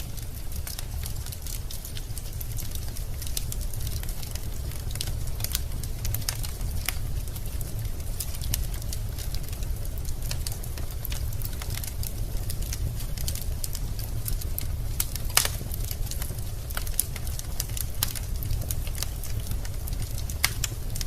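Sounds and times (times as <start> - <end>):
logs crackling and snapping: 0.0 - 21.0.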